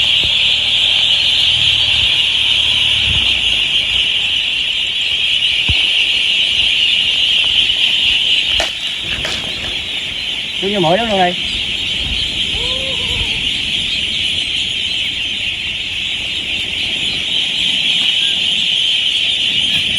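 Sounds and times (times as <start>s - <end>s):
large flock of ducks calling: 0.0s - 19.9s.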